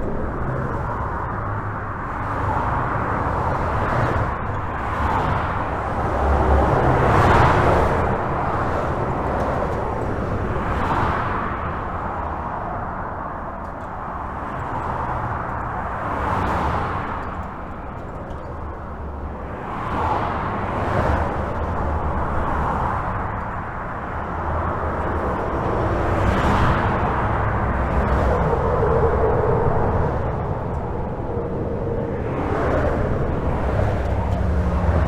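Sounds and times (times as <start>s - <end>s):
highway traffic rumble: 0.0s - 35.0s
vehicle humming tone: 0.0s - 35.0s.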